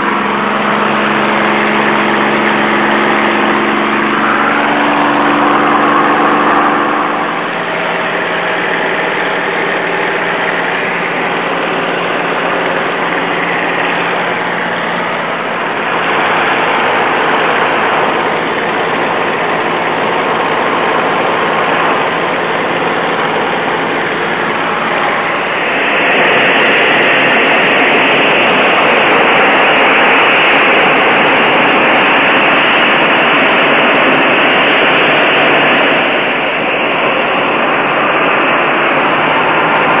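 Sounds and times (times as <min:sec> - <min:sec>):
piston aircraft engine roaring: 0:00.0 - 0:40.0
rushing airflow: 0:00.0 - 0:40.0.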